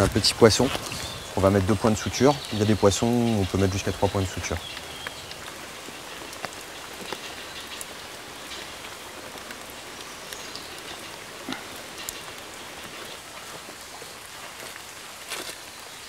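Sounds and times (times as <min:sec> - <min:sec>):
raindrop ticks: 0:00.0 - 0:16.0
steady rain falling: 0:00.0 - 0:16.0.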